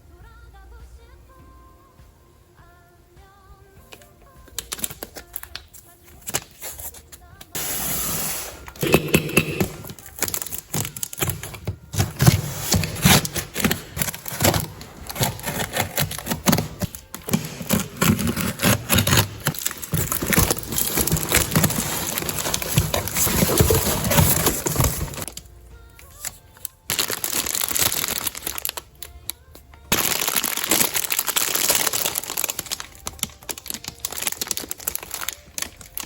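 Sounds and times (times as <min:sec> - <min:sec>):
packaging crinkling: 0:04.5 - 0:07.6, 0:08.4 - 0:36.0.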